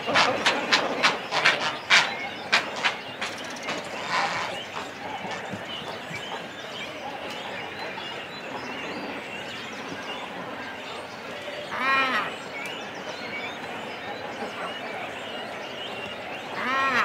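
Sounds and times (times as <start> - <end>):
harsh bird calls: 0.0 - 17.0
many birds chirping and calling: 0.0 - 17.0.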